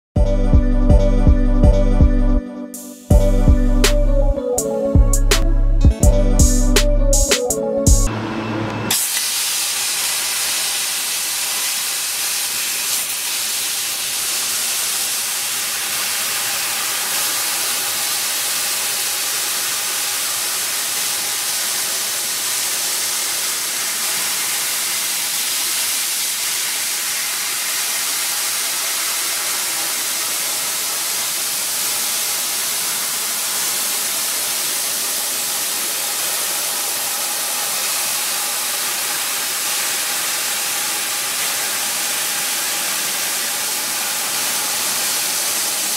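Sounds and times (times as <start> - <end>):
laser cutter gas hissing: 8.9 - 45.9.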